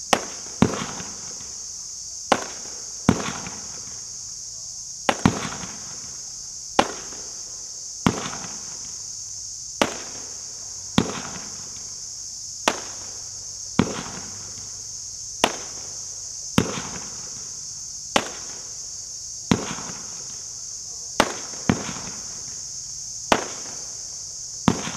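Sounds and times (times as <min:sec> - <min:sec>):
firework cake bangs: 0:00.0 - 0:09.0, 0:09.8 - 0:12.0, 0:12.6 - 0:24.9.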